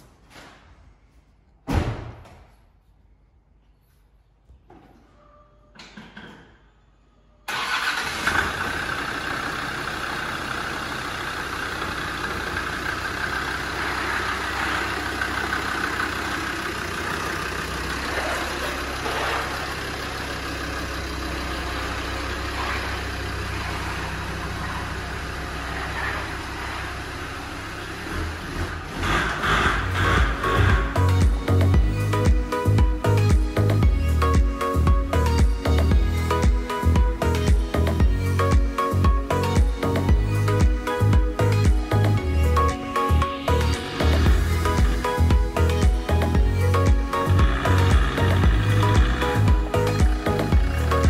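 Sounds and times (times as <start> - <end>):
diesel engine starting and idling: 7.4 - 51.0.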